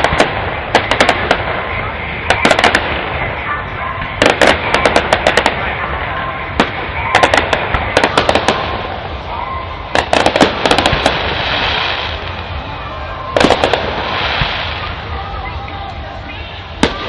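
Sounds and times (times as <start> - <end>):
fireworks bangs and crackles: 0.0 - 17.0
steady background hiss: 0.0 - 17.0.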